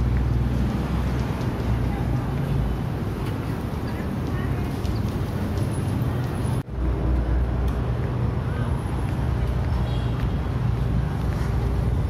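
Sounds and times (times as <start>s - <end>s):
passing cars rumble: 0.0s - 9.8s.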